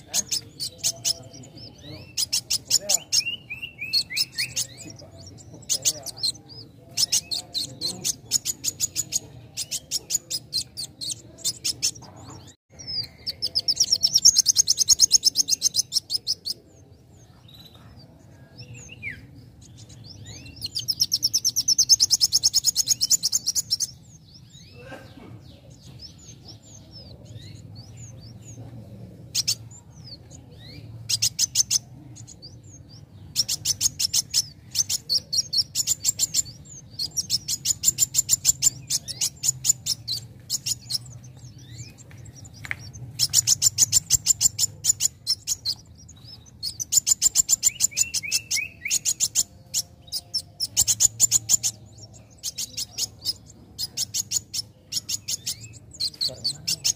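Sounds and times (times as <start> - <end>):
bird chirps: 0.0 - 56.9
sunbird trilling song: 0.0 - 56.9.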